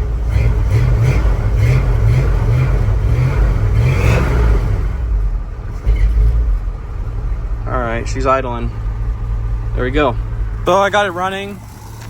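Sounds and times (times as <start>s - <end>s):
engine running unevenly: 0.0s - 12.0s.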